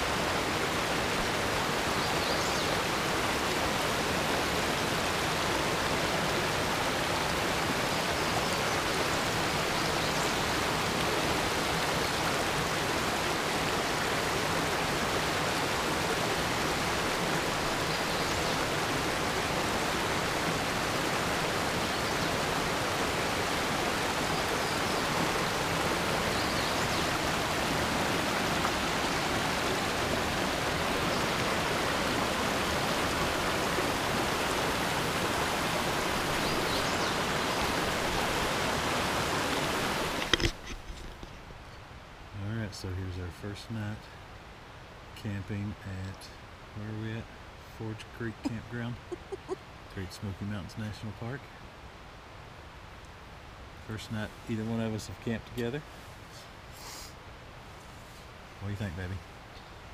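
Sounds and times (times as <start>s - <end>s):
creek rushing over rocks: 0.0s - 59.9s.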